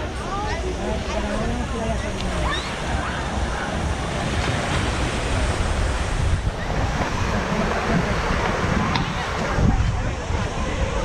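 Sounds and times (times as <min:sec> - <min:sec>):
sea surf washing onto beach: 0:00.0 - 0:11.0
wind rumbling on microphone: 0:00.0 - 0:11.0.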